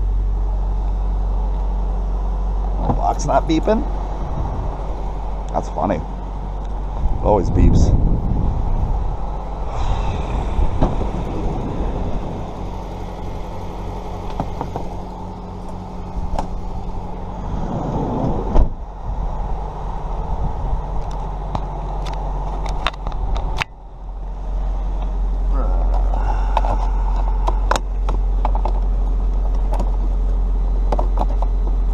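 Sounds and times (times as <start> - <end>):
car running noise: 0.0 - 31.9
low hum: 0.0 - 31.9.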